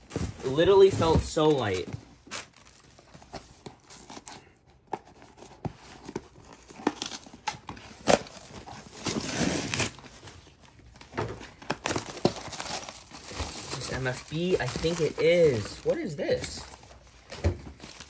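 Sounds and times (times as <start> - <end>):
packaging rustling and tearing: 0.0 - 18.0.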